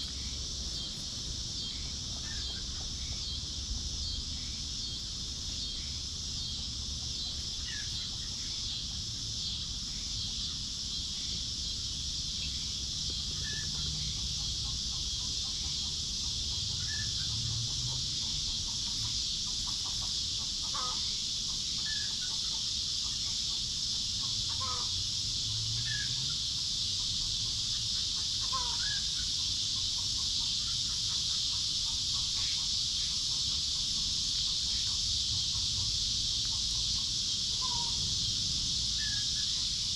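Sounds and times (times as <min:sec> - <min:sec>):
high drone of insects: 0:00.0 - 0:39.9.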